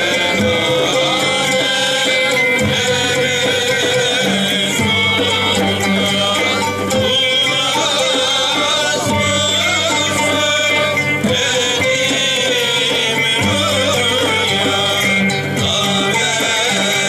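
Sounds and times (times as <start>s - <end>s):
frame drums: 0.0s - 17.0s
male chorus singing a hymn: 0.0s - 17.0s
oud: 0.0s - 17.0s.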